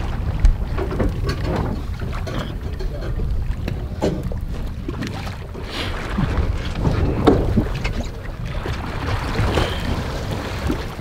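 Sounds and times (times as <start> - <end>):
water sloshing along hull: 0.0 - 11.0
wind buffeting microphone: 0.0 - 11.0.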